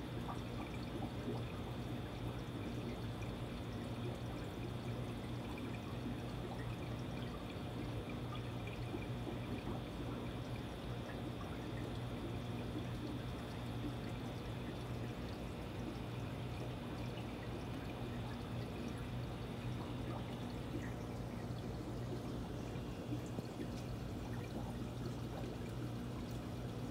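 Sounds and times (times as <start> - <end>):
aquarium running water: 0.0 - 26.9
low steady hum: 0.0 - 26.9.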